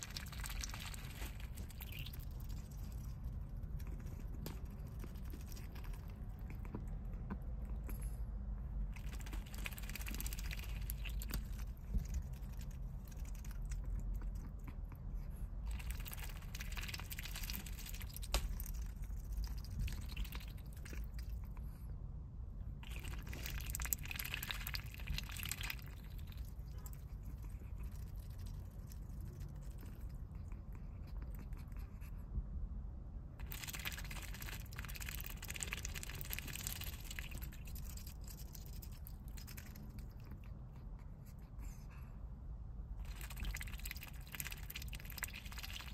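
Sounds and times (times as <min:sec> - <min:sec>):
duck slurping water: 0:00.0 - 0:07.6, 0:08.8 - 0:21.7, 0:22.7 - 0:31.8, 0:33.4 - 0:41.0, 0:43.0 - 0:45.9
steady low rumble: 0:00.0 - 0:45.9.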